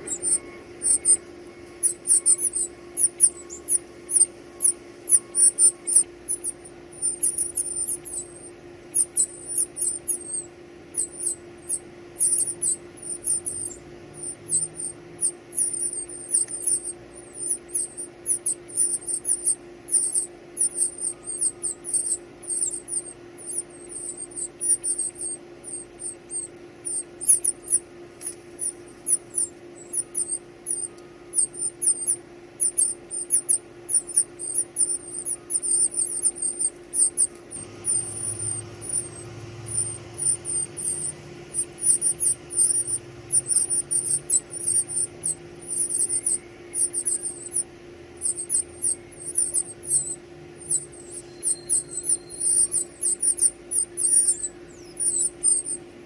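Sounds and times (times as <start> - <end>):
nestlings begging with squeaky calls: 0.0 - 55.9
faint low hum: 0.0 - 56.0.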